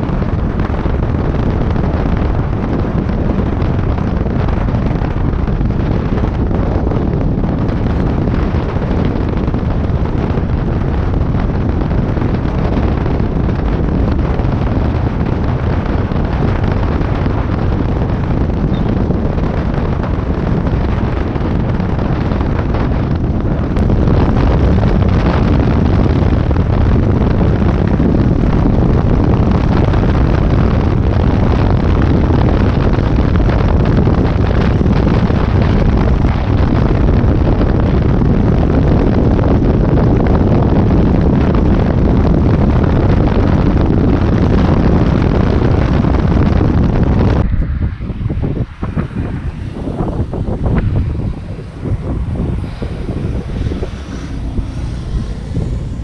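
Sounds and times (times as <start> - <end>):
motorcycle running noise: 0.0 - 56.0
wind buffeting microphone: 0.0 - 56.0.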